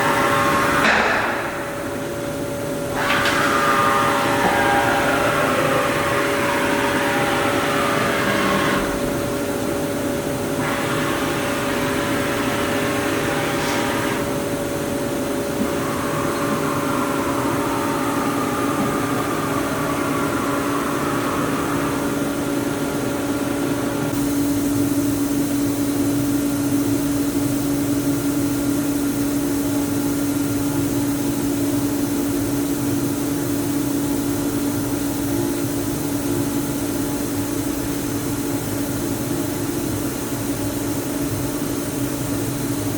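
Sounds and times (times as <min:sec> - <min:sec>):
machining center whir and hum: 0:00.0 - 0:42.9.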